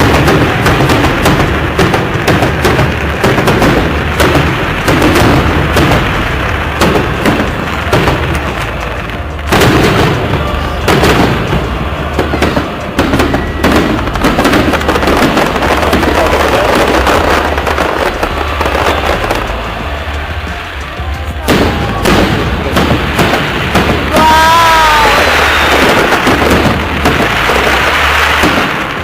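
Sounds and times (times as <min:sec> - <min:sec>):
fireworks booms and crackling: 0:00.0 - 0:29.0.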